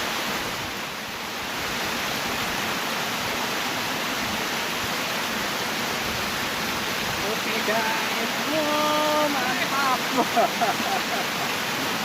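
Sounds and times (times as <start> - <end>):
river water rushing over dam: 0.0 - 12.0.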